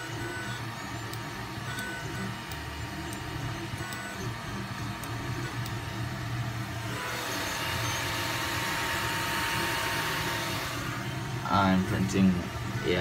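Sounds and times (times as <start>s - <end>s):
three-d printer humming: 0.0s - 13.0s.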